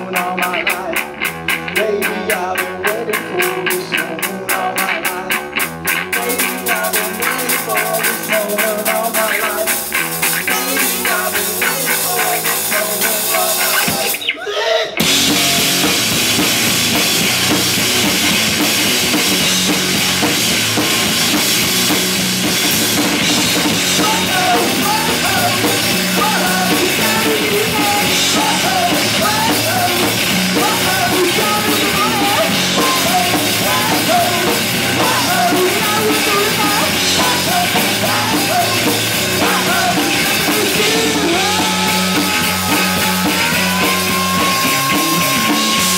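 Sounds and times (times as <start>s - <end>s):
drum kit beat: 0.0s - 14.3s, 15.0s - 45.9s
electric guitar: 0.0s - 45.9s
rock band playing: 0.0s - 45.9s.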